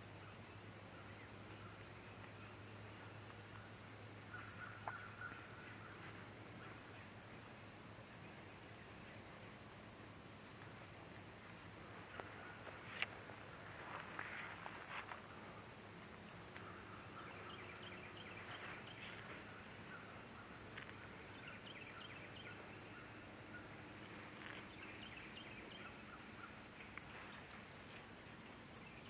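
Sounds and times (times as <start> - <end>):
faint songbird chirps: 0.0 - 29.0
quiet outdoor background noise: 0.0 - 29.0.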